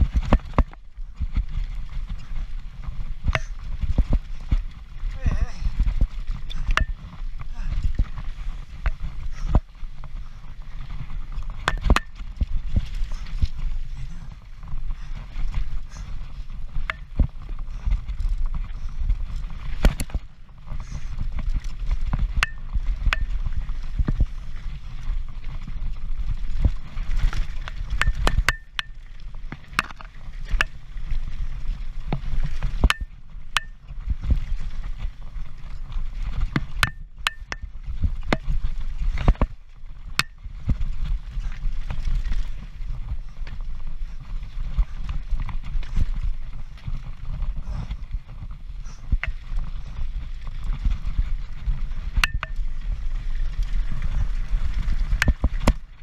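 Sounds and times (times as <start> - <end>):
low rumble of wind and vibration: 0.0 - 56.0.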